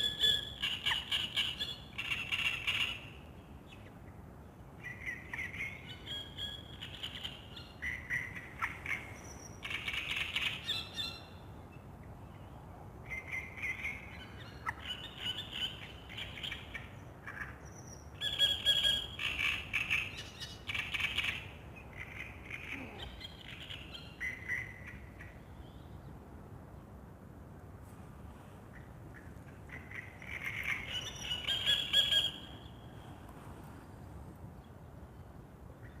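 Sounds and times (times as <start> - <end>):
songbirds singing: 0.0 - 27.0, 28.7 - 33.2.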